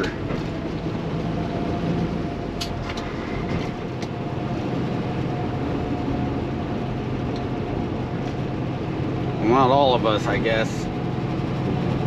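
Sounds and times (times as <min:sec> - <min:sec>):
diesel truck engine running: 0:00.0 - 0:12.0
tyre and road noise: 0:00.0 - 0:12.0.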